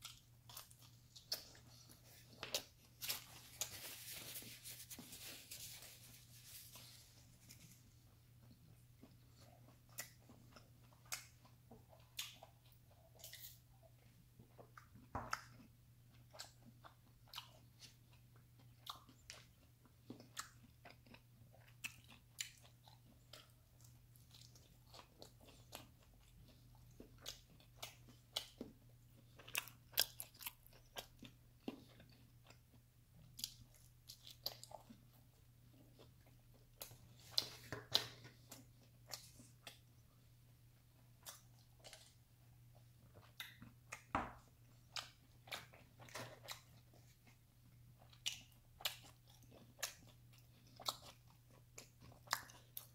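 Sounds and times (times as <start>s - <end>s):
chewing and biting pizza: 0.0s - 52.9s.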